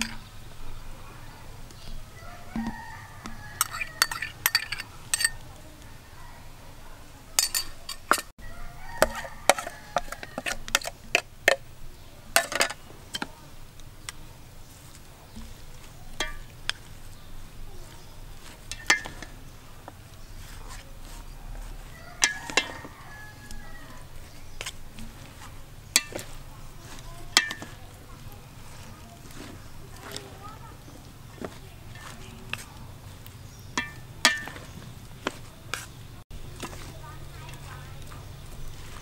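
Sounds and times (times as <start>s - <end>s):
utensils clinking against metal bowl: 0.0s - 0.8s, 1.6s - 5.7s, 7.4s - 39.0s.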